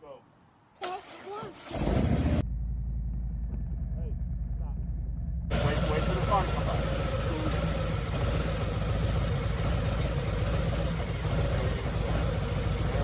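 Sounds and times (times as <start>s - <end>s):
vehicle engine idling: 1.8s - 13.0s.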